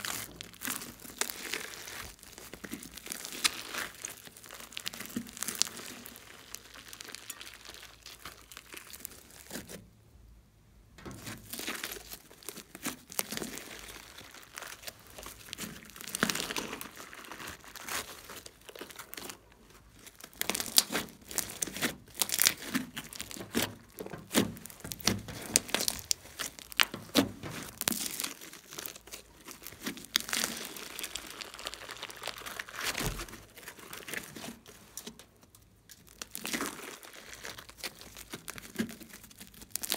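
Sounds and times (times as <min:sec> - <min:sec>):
slime crackling and tearing: 0:00.0 - 0:09.8, 0:11.0 - 0:39.9.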